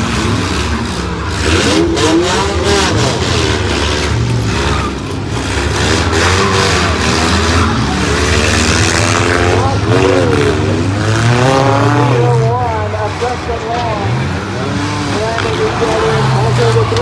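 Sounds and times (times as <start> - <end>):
car engines revving: 0.0 - 17.0
cars crashing together: 0.0 - 17.0.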